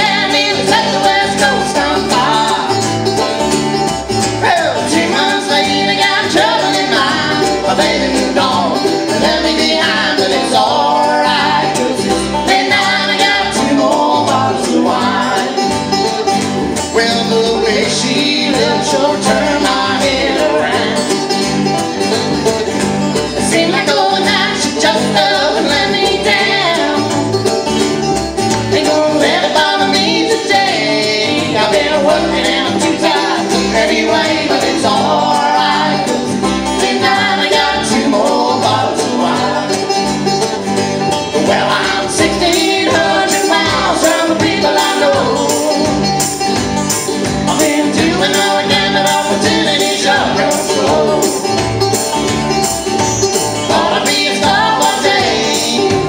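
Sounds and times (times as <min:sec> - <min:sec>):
acoustic guitar: 0:00.0 - 0:56.0
banjo: 0:00.0 - 0:56.0
upright bass: 0:00.0 - 0:56.0.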